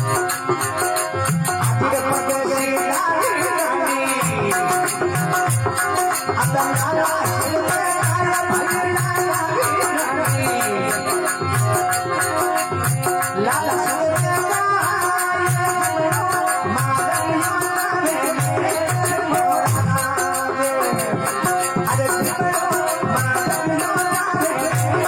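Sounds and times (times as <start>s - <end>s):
jingling percussion: 0.0s - 25.0s
regular drum beat: 0.0s - 25.0s.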